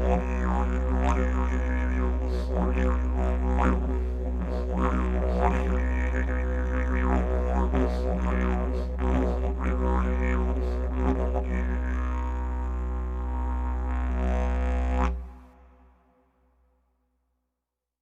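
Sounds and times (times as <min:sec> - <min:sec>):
didgeridoo drone: 0:00.0 - 0:15.8.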